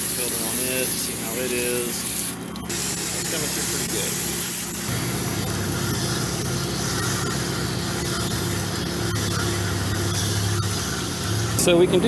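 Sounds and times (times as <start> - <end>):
water spraying from nozzle: 0.0 - 11.8
low machine hum: 0.0 - 12.0.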